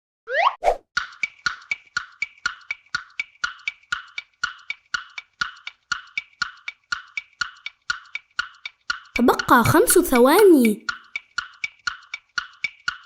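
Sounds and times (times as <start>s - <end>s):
wood-block tick-tock timer: 1.0s - 13.0s.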